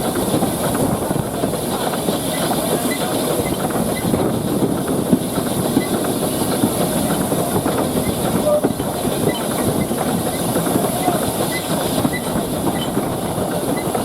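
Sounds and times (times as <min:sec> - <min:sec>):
steam hiss: 0:00.0 - 0:14.0
steam train rattling: 0:00.0 - 0:14.0.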